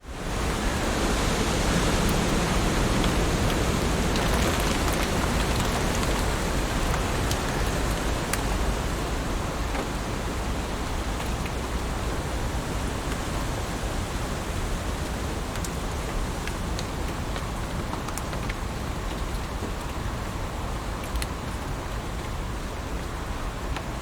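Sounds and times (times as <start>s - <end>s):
heavy rain on leaves: 0.0s - 24.0s.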